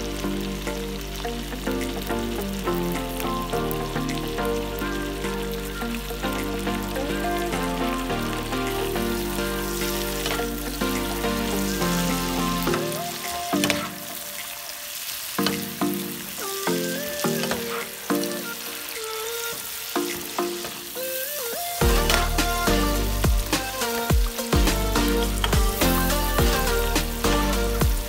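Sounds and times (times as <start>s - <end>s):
background music with melody: 0.0s - 28.0s.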